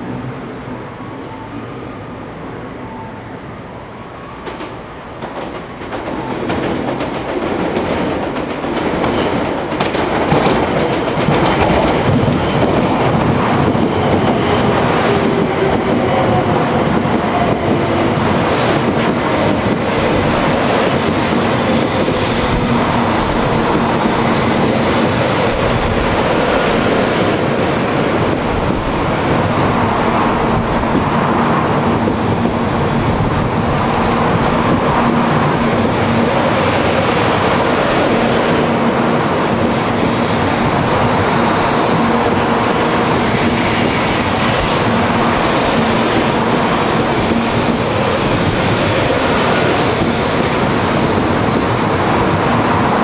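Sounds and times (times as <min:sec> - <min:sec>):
train wheel and air rush: 0:04.4 - 0:53.0.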